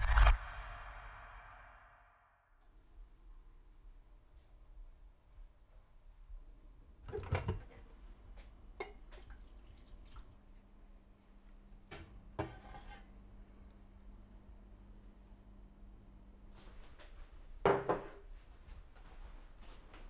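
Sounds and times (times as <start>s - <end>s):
faint steady hum: 2.6s - 20.0s.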